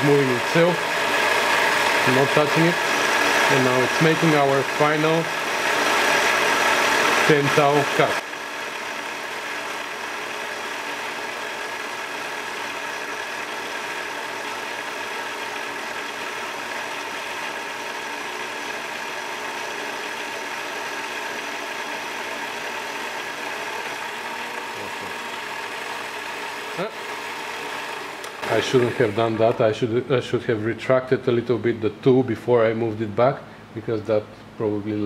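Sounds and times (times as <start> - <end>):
lathe motor and gears whirring: 0.0 - 29.8.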